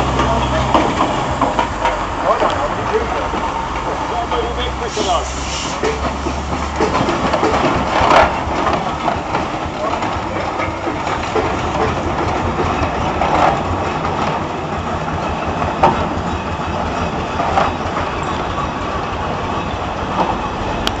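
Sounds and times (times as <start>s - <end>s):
steam roller rumbling: 0.0s - 21.0s.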